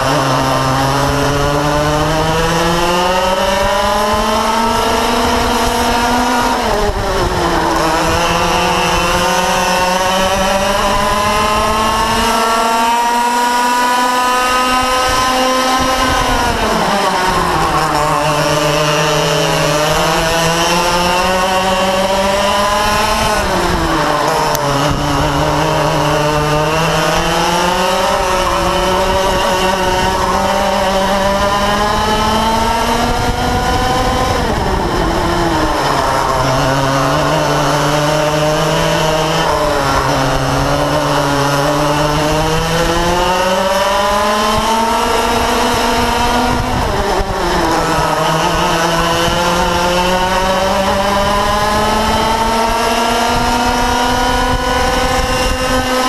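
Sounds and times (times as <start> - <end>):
kart engines racing: 0.0 - 56.0.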